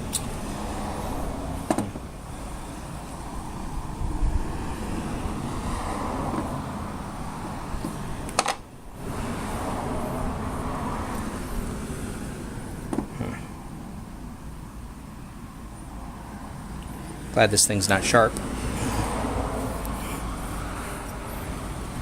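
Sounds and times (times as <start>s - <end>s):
steady rumbling background noise: 0.0s - 22.0s.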